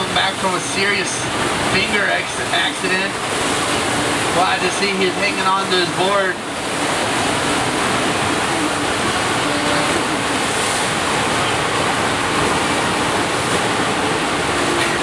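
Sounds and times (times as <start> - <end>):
wave machine water rushing: 0.0 - 15.0.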